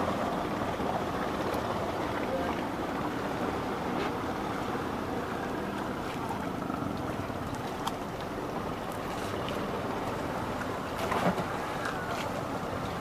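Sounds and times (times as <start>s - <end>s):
boat engine drone: 0.0s - 13.0s
water wash of boat: 0.0s - 13.0s.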